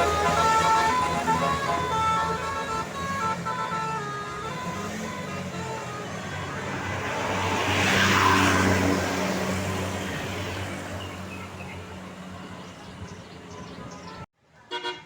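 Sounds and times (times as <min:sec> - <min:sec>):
diesel bus driving past: 0:00.0 - 0:14.3.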